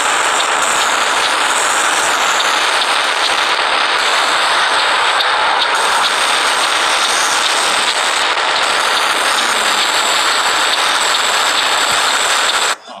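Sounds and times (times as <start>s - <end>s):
harsh hiss-like game noise: 0.0s - 13.0s.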